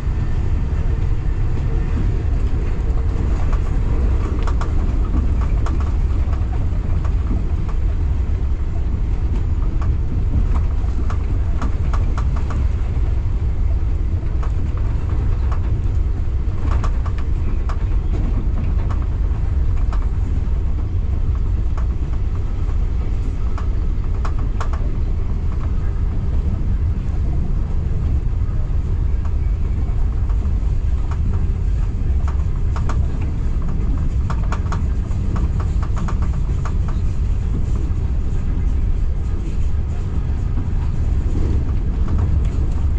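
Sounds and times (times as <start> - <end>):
train wheels rumbling on rails: 0.0 - 42.9
wheels clicking over rail joints: 0.8 - 42.9.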